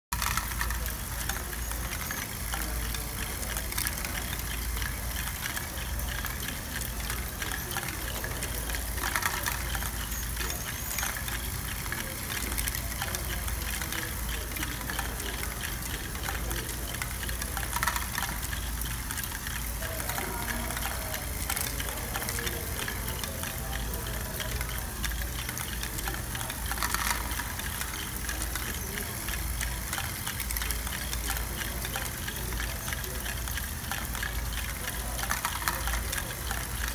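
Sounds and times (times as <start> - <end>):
plastic balls rattling and clicking: 0.1 - 36.9
plastic motors and gears whirring: 0.1 - 36.9
sharp plastic clacks: 0.1 - 36.9.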